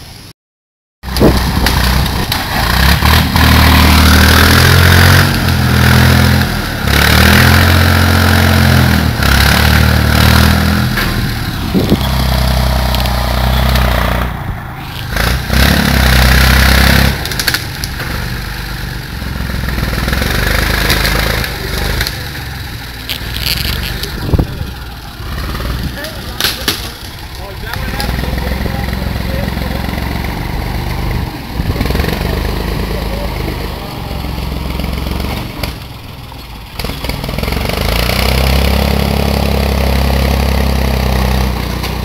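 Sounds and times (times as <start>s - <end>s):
backhoe engine revving: 1.1s - 42.0s.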